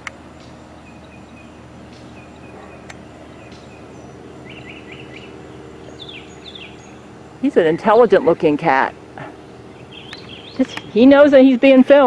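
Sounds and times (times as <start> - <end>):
small songbirds chirping: 0.0 - 12.0
steady low hum: 0.0 - 12.0.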